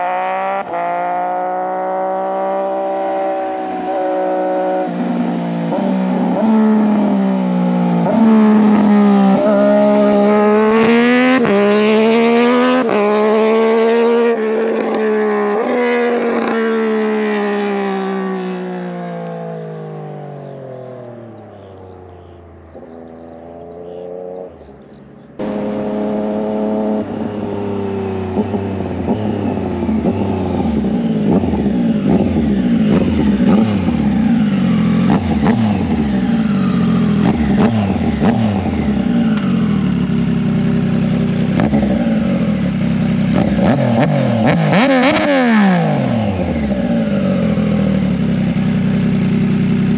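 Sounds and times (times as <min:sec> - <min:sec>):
motorcycle engine revving: 0:00.0 - 0:49.9
motorcycle passing: 0:00.0 - 0:49.9.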